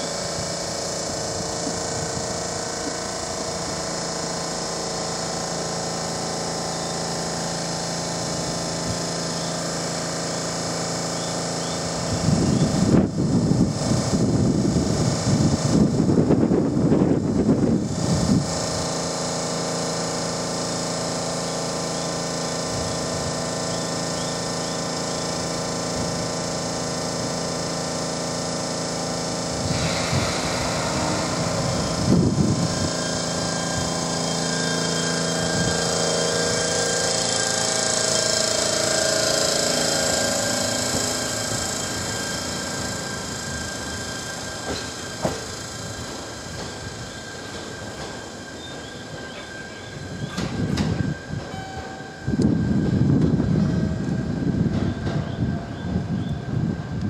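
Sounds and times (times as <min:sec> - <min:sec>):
train equipment humming: 0:00.0 - 0:57.0
train motor whine rising: 0:00.0 - 0:57.0.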